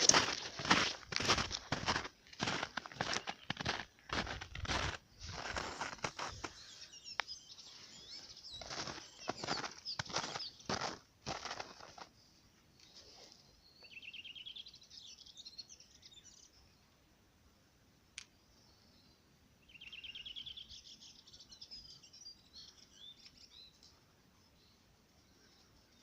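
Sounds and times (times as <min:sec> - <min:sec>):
songbird singing: 0:00.0 - 0:17.1, 0:17.9 - 0:26.0.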